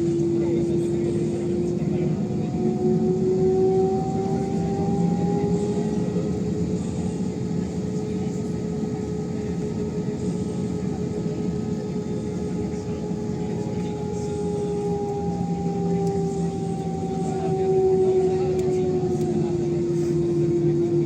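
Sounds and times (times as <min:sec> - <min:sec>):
jet engine rumble: 0:00.0 - 0:21.0
jet engine whine: 0:00.0 - 0:21.0.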